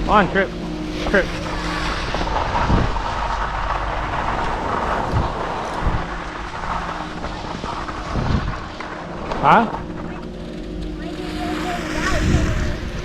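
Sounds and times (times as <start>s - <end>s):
low mechanical hum: 0.0s - 13.0s
skis scraping over snow: 0.0s - 13.0s
wind on microphone: 0.0s - 13.0s.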